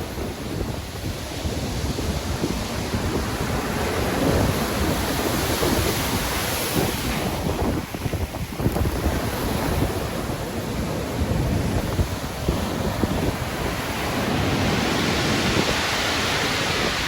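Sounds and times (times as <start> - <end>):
sea waves breaking: 0.0 - 17.0
wind gusting on microphone: 0.0 - 17.0.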